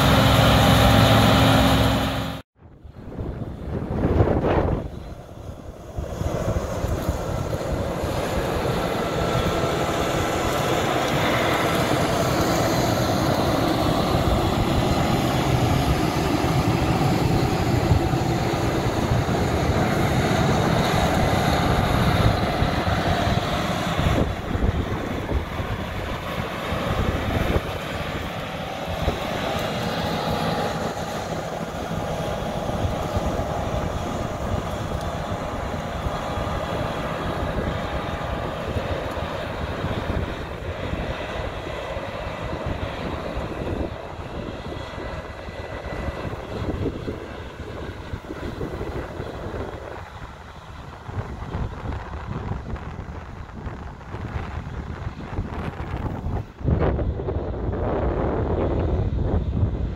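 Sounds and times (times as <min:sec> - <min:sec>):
diesel farm machinery running: 0:00.0 - 0:59.9.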